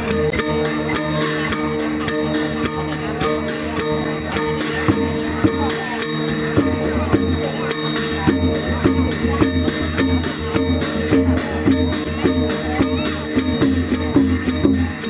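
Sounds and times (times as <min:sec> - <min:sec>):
cymbals: 0:00.0 - 0:15.0
drum beat: 0:00.0 - 0:15.0.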